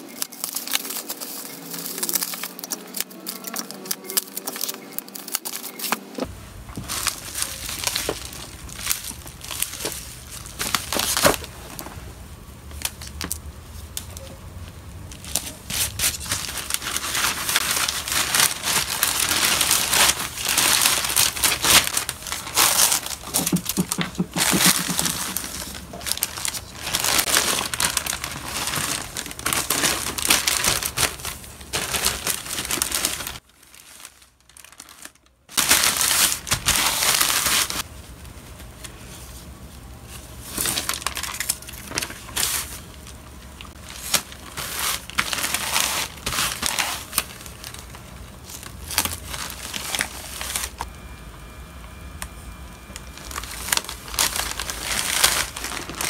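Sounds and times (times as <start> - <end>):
paper and plastic rustling: 0.0 - 14.4, 15.1 - 50.9, 52.9 - 56.0
plastic mailer bags crinkling: 0.0 - 51.0, 51.9 - 56.0.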